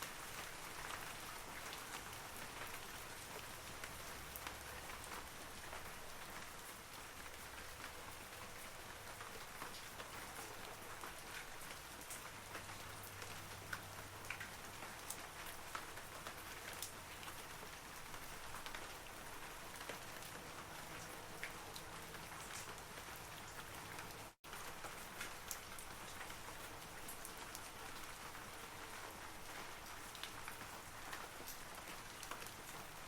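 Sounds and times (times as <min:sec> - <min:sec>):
light rain on leaves: 0:00.0 - 0:33.0.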